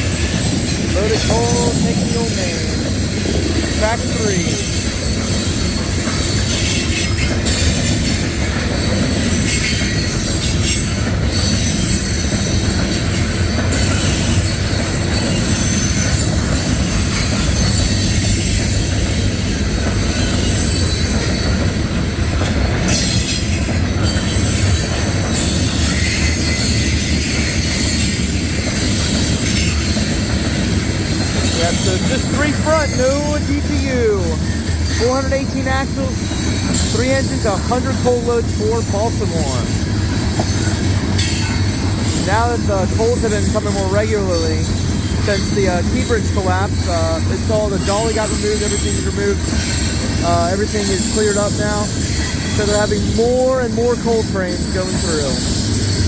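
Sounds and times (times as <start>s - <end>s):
freight train rolling past: 0.0s - 56.0s
high wheel squeal: 0.0s - 56.0s.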